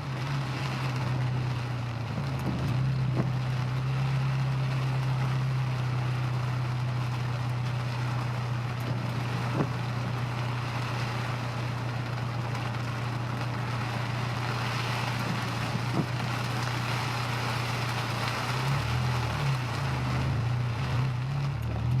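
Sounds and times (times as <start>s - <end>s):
car engine drone: 0.0s - 22.0s
road and wind noise: 0.0s - 22.0s.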